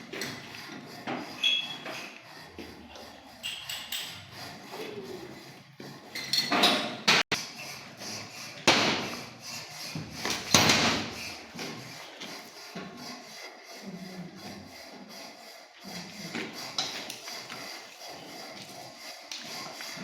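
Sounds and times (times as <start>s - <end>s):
hand tools scraping metal pipe: 0.0s - 20.0s.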